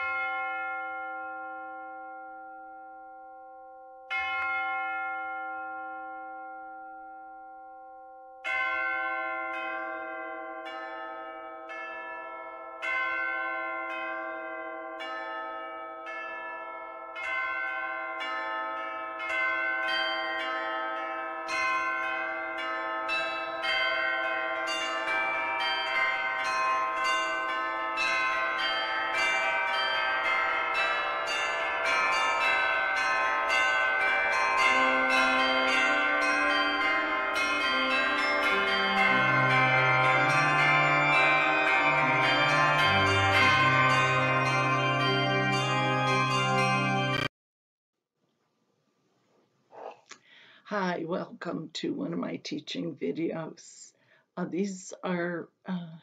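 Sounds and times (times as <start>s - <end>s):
lower bell: 0.0s - 47.3s
ringing bell: 0.0s - 47.3s.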